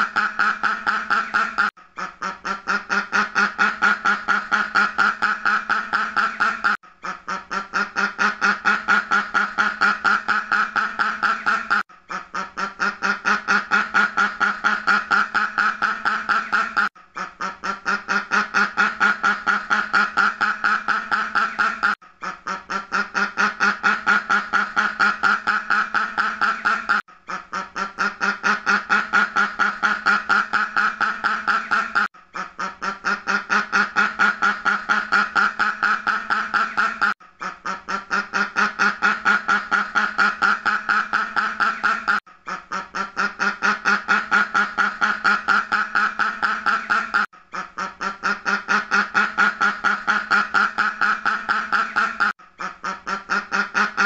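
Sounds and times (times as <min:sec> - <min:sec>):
duck quacking rapidly: 0:00.0 - 0:54.0.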